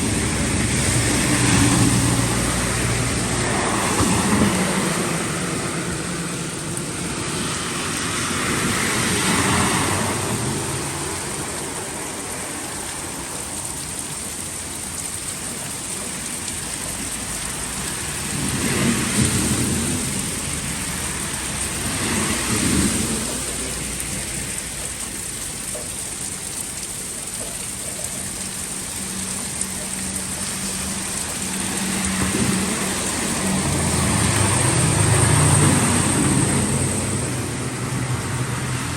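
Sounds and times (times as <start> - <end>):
heavy rain: 0.0 - 38.9
vehicles passing through water: 0.0 - 38.9.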